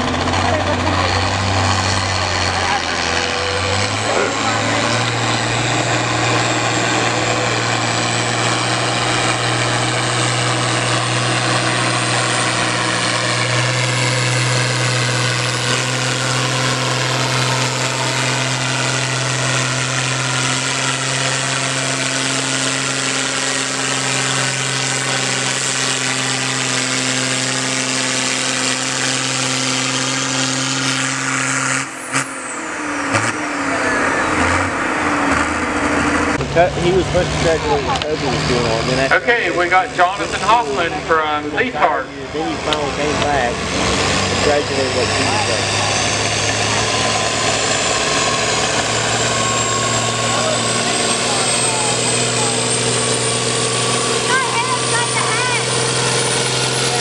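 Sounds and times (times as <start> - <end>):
high whine: 0.0 - 57.0
tractor diesel engine droning: 0.0 - 57.0.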